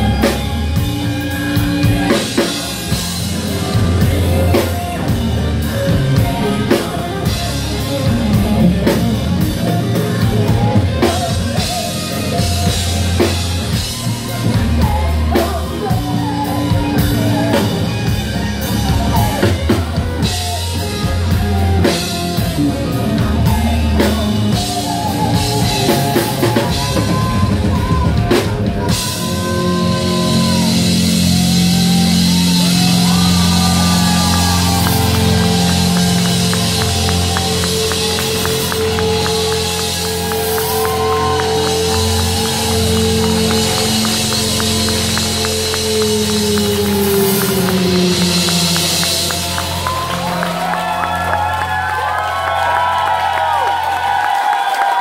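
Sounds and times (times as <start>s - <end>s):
person singing lead vocals: 0.0s - 50.5s
drum kit: 0.0s - 55.0s
electric guitar: 0.0s - 55.0s
keyboards: 0.0s - 55.0s.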